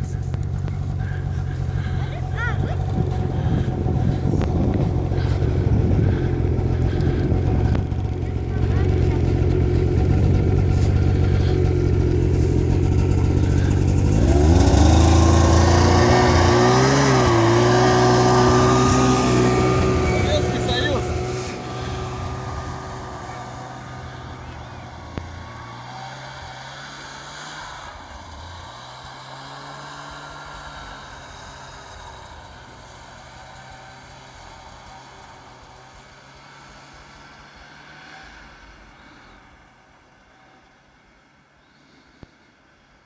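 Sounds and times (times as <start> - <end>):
vehicle engine revving: 0.0 - 42.4.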